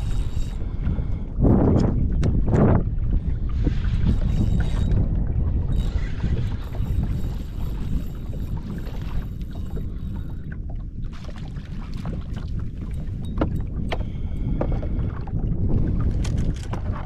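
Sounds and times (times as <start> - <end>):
rumble of wind and water: 0.0 - 17.0.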